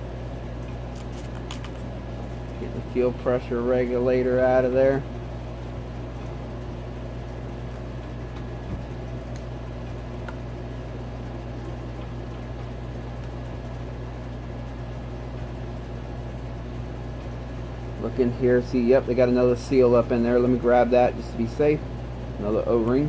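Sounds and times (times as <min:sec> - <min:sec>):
mechanical room hum: 0:00.0 - 0:23.0.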